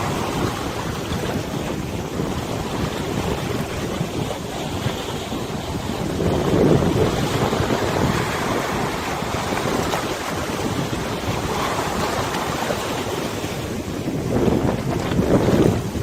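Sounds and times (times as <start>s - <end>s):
river water: 0.0s - 16.0s
wind buffeting microphone: 0.0s - 16.0s.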